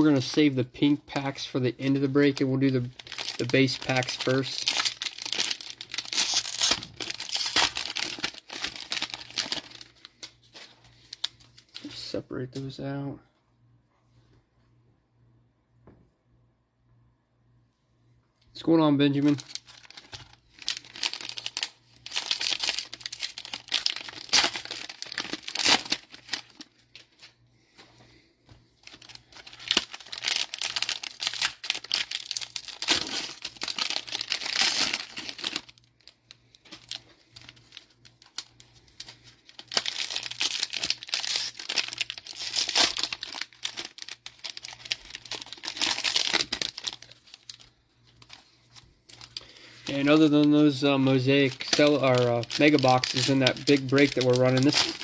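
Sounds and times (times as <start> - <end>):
foil wrappers crinkling: 0.0 - 12.1, 19.1 - 27.4, 28.8 - 55.0.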